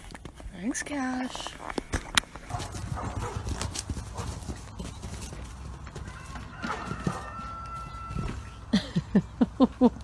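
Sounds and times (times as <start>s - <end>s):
horse hooves striking ground: 0.0s - 8.8s.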